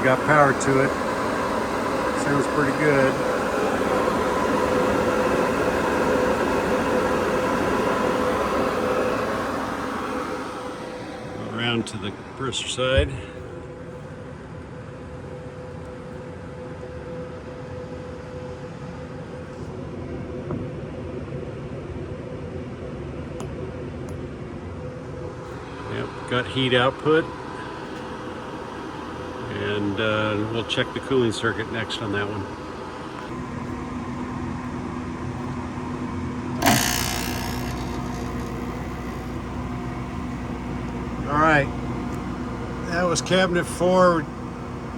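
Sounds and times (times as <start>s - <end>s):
heat pump humming: 0.0s - 44.9s.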